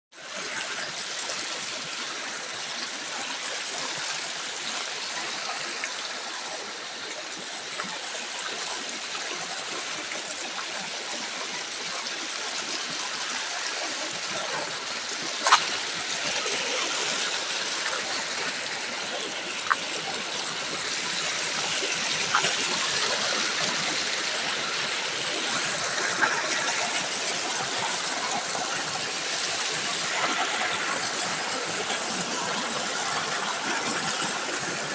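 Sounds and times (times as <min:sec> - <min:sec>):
stream rushing: 0:00.5 - 0:34.9.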